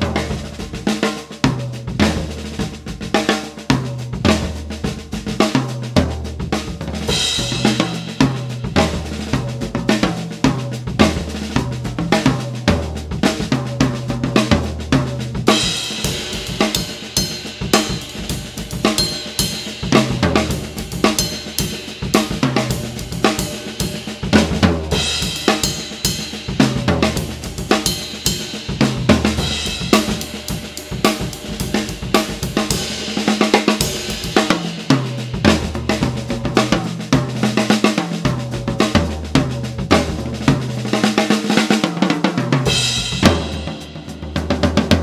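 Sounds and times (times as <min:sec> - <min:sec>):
low drum booms: 0:00.0 - 0:37.6, 0:42.6 - 0:45.0
drum kit playing: 0:00.0 - 0:45.0.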